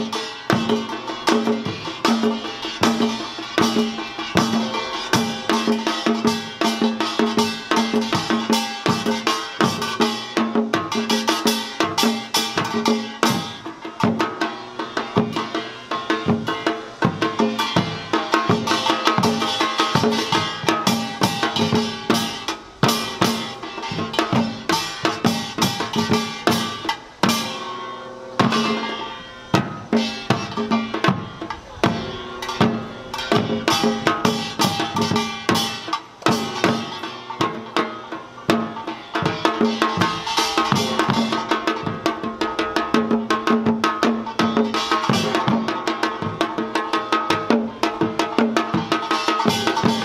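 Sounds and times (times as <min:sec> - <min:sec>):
barrel drum: 0:00.0 - 0:50.0
hourglass drums: 0:00.0 - 0:50.0.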